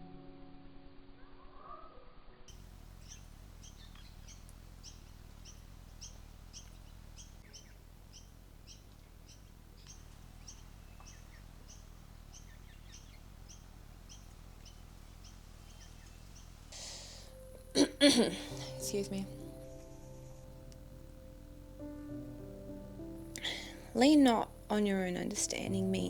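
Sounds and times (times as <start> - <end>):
faint chirps of other birds: 1.4 - 26.0
bird chirping: 2.5 - 26.0
low background rumble: 2.5 - 26.0.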